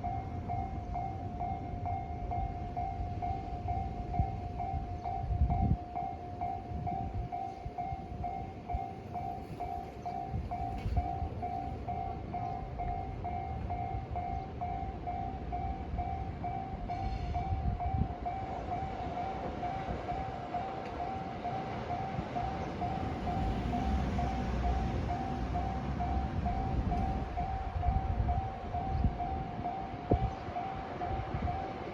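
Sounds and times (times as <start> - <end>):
level crossing bell ringing: 0.0 - 31.9
train rumbling past: 0.0 - 31.9.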